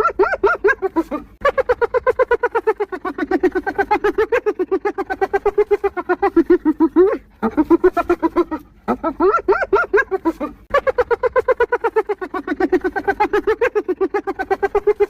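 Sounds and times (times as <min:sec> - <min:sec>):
hyena giggling: 0:00.0 - 0:15.0.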